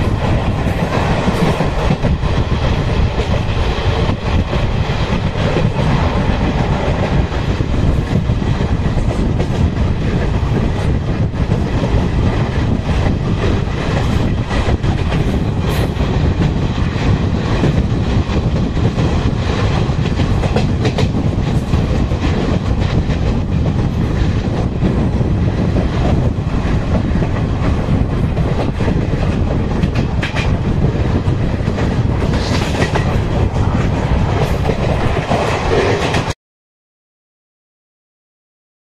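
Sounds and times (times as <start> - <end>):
clickety-clack of rail joints: 0.0 - 36.4
train wheels rumbling on track: 0.0 - 36.4.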